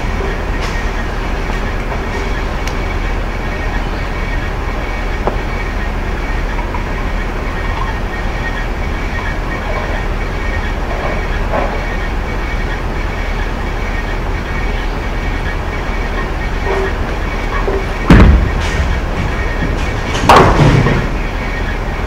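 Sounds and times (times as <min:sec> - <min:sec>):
bowling alley machinery rumbling: 0:00.0 - 0:22.0
bowling balls rolling on lanes: 0:00.0 - 0:22.0.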